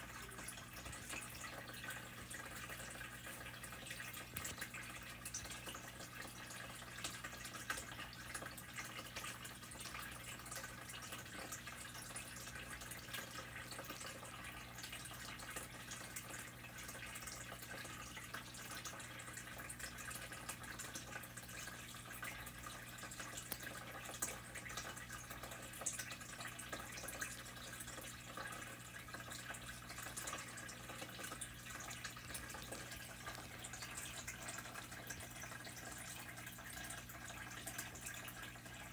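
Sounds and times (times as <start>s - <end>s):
low steady hum: 0.0s - 38.9s
water trickle with drips: 0.0s - 38.9s.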